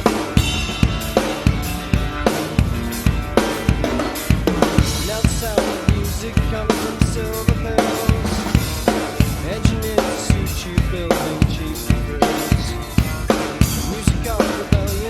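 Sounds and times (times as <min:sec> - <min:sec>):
band recording: 0:00.0 - 0:15.0
rock drum kit: 0:00.0 - 0:15.0
sliding guitar line: 0:00.0 - 0:15.0.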